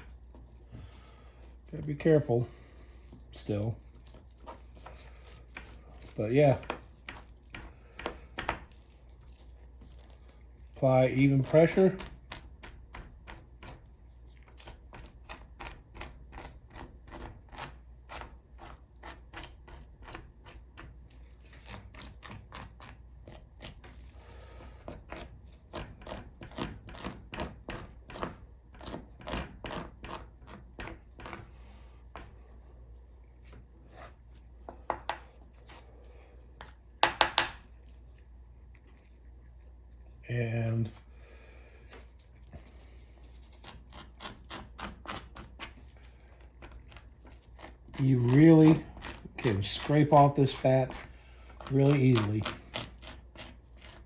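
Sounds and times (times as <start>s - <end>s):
scraper scraping chicken skin: 0.0s - 32.5s, 41.9s - 54.0s.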